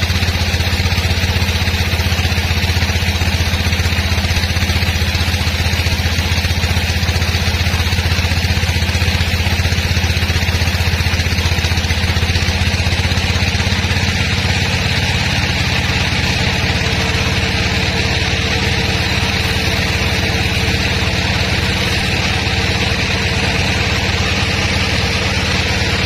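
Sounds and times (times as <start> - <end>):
sawmill machinery engine pulsing: 0.0 - 26.0.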